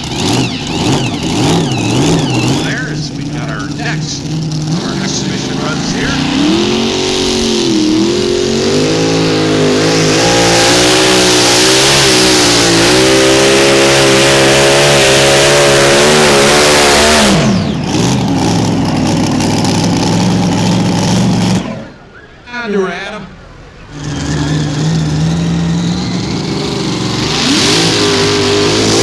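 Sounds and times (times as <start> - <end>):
tractor engine high-revving: 0.0 - 22.2, 23.6 - 29.0.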